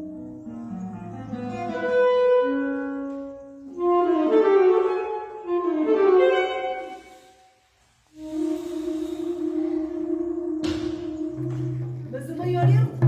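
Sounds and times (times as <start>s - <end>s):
saxophone melody: 0.0s - 12.1s.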